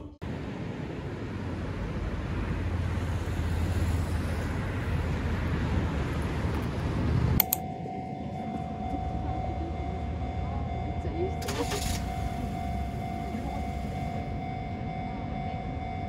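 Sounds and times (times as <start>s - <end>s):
moving vehicle rumbling: 0.0s - 16.0s.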